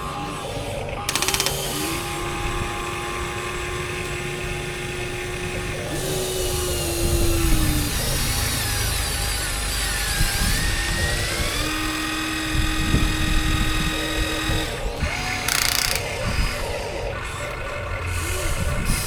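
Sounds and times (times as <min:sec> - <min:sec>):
high electric motor whine: 0:00.0 - 0:19.0
lower electric motor whine: 0:00.0 - 0:19.0.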